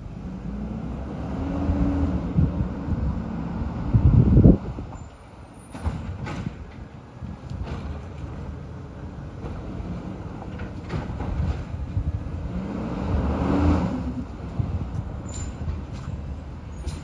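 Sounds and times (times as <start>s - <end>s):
garbage truck diesel engine: 0.0s - 17.0s.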